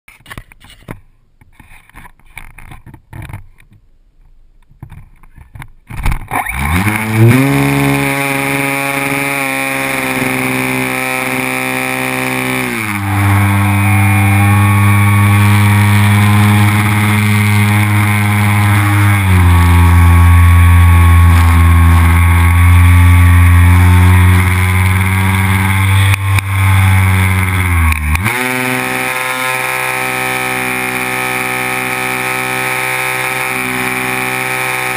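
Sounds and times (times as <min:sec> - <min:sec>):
model plane engine running: 0:06.4 - 0:34.9.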